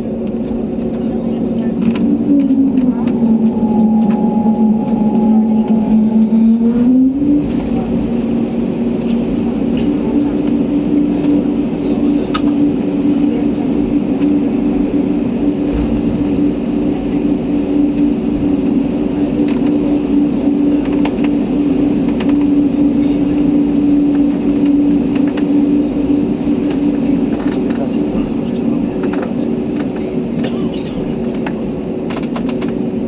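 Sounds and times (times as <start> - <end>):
aircraft cabin drone: 0.0 - 33.0.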